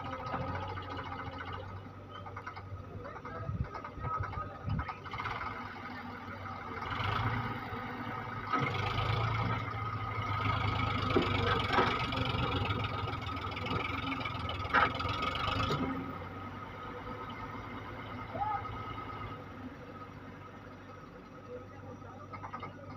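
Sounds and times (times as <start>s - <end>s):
diesel engines running: 0.0s - 22.9s.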